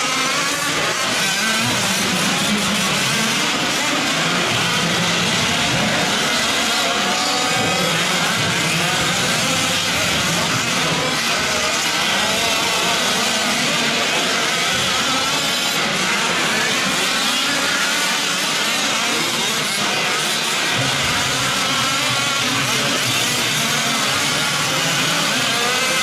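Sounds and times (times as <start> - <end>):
rc truck engines revving: 0.0 - 26.0.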